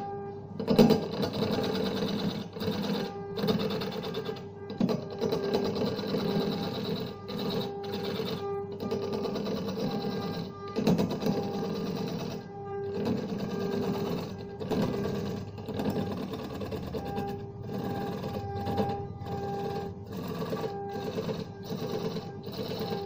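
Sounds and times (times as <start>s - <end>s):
lathe motor humming: 0.0s - 23.0s
chisel scraping spinning wood: 0.6s - 23.0s.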